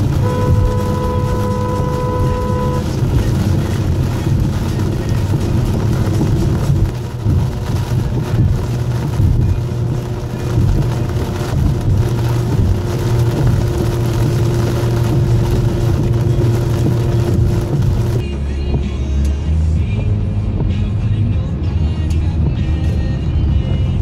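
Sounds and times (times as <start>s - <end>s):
car cabin road noise: 0.0s - 24.0s
tyres on wet road: 0.0s - 24.0s.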